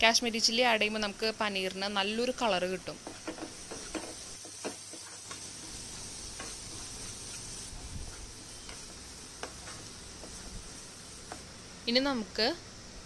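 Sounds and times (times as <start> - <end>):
faint frying hiss: 0.0 - 13.0.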